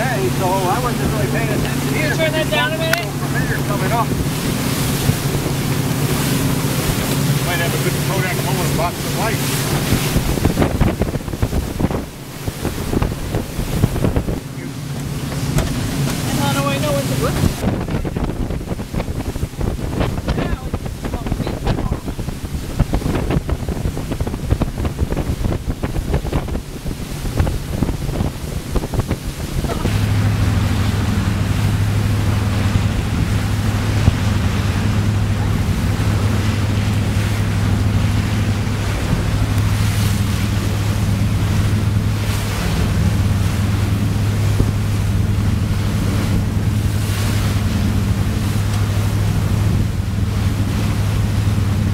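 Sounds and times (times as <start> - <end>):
low boat engine drone: 0.0 - 51.9
water rushing: 0.0 - 51.9
wind buffeting microphone: 0.0 - 51.9.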